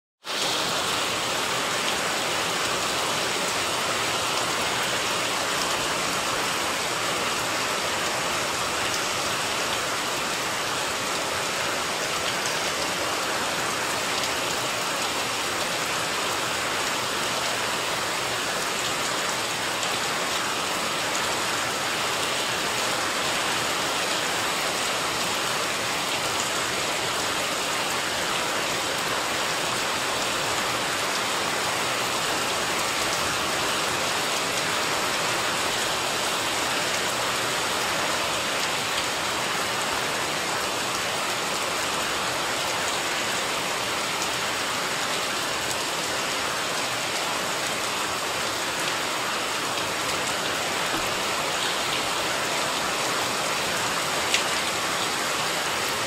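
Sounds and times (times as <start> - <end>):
rain falling on plants: 0.2 - 56.0.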